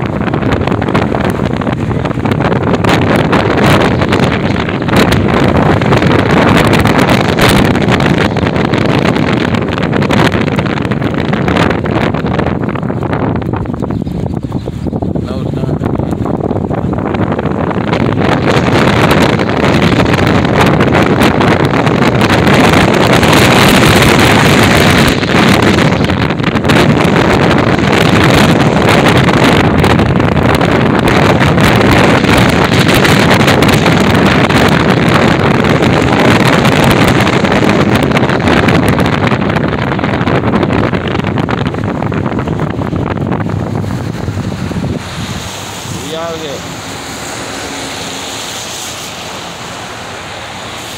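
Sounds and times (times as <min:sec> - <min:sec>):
road and vehicle noise: 0:00.0 - 0:50.9
wind buffeting microphone: 0:00.0 - 0:50.9.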